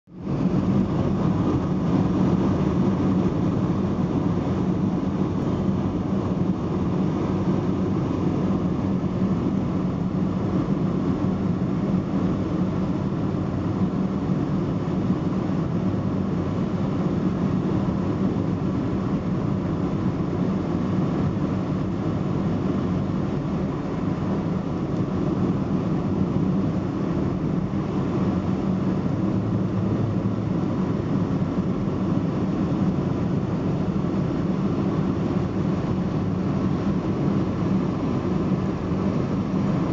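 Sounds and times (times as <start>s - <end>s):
car cabin road and engine drone: 0.1s - 39.9s.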